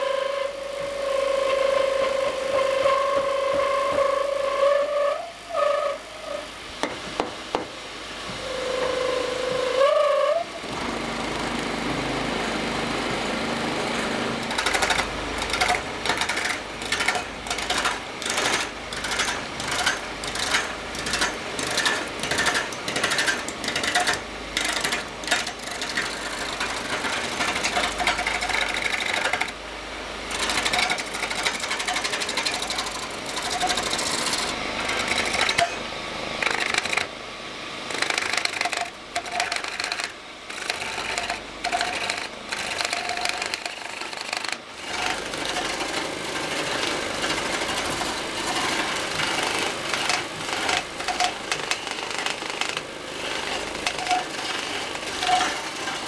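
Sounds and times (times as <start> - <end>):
wood lathe whine: 0.0 - 7.6, 8.2 - 56.0
turning tool cutting wood: 8.4 - 37.2, 37.8 - 56.0.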